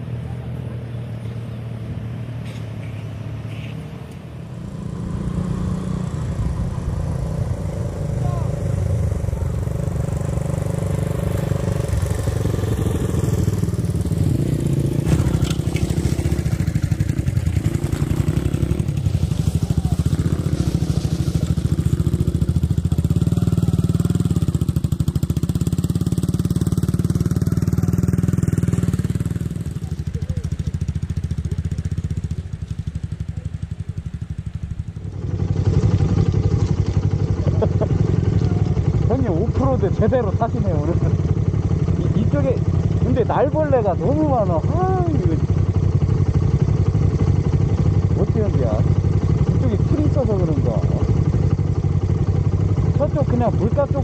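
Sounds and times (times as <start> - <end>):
motorcycle engines running: 0.0 - 54.0.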